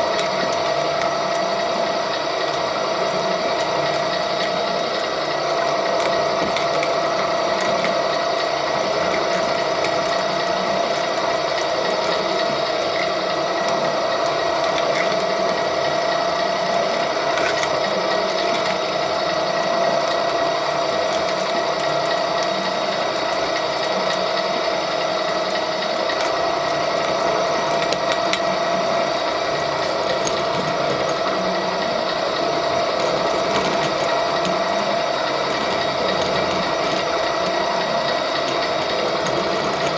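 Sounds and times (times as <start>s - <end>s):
pipe threading machine gear whine: 0.0s - 39.9s.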